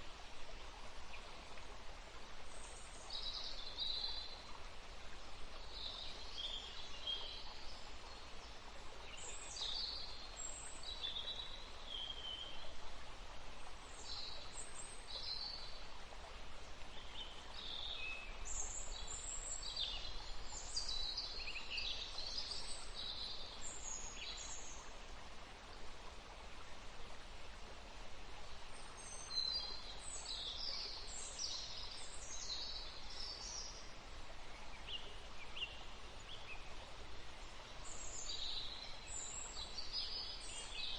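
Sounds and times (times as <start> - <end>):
outdoor background hiss: 0.0 - 40.9.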